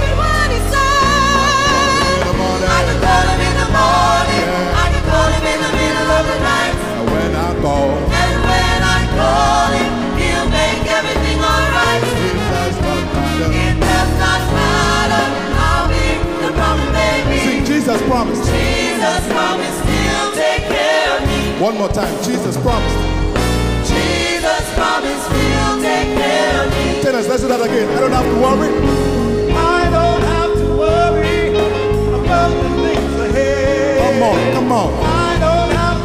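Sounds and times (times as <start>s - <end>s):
gospel vocal group singing: 0.0s - 36.0s
instrumental backing with bass: 0.0s - 36.0s.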